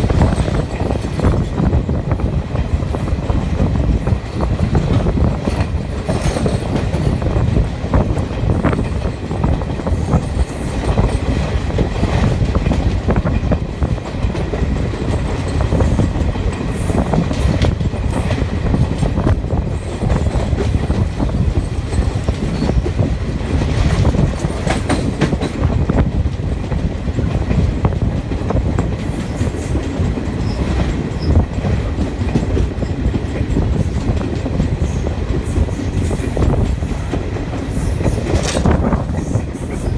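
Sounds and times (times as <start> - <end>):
rail-joint clicks: 0.0 - 39.9
train wheels rumbling on rail: 0.0 - 39.9.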